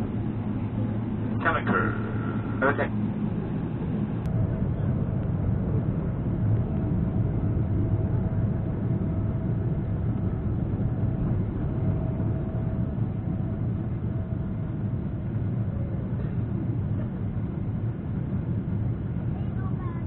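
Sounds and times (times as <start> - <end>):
airplane cabin rumble: 0.0 - 20.0
faint steady hum: 0.0 - 20.0.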